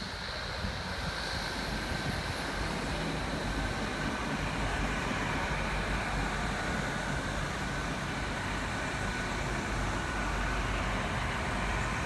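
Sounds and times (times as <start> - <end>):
faint train whine: 0.0 - 12.0.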